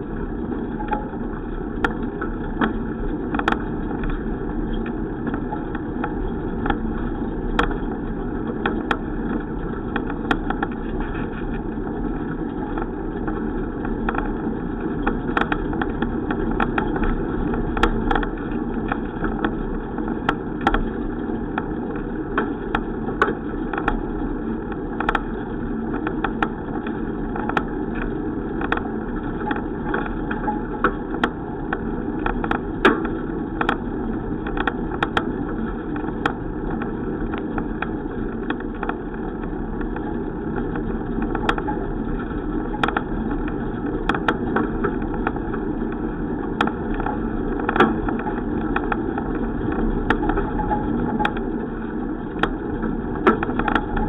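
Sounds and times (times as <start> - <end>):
bicycle rumbling: 0.0 - 54.0
small clicks and rattles: 0.0 - 54.0.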